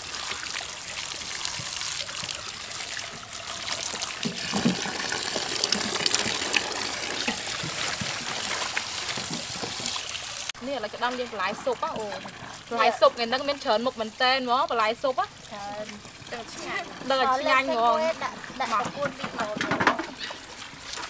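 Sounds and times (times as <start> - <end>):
hands rinsing vegetables splashing: 0.0 - 21.0
water pouring into metal basin: 0.0 - 21.0.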